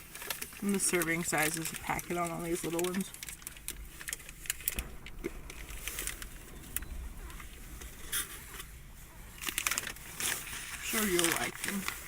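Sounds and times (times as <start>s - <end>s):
plastic snack packet crinkling: 0.0s - 12.0s.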